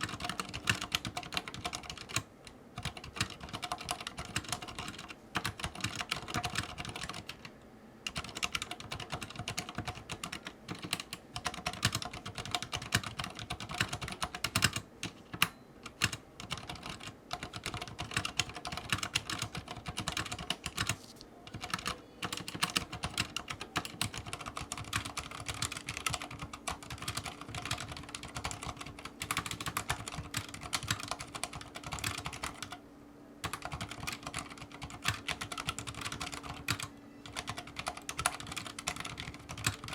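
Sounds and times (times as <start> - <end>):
fast typing on mechanical keyboard: 0.0 - 32.8, 33.4 - 39.9.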